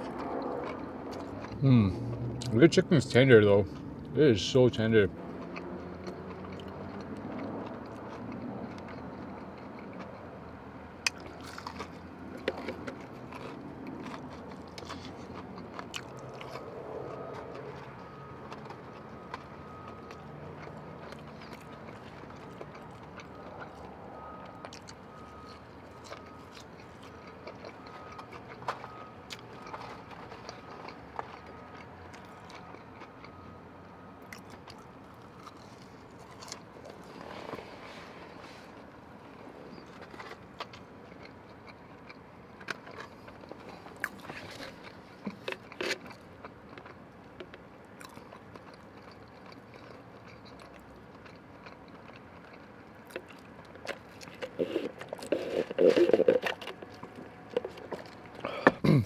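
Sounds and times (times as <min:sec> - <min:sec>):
chewing and biting fried food: 0:00.0 - 0:59.0.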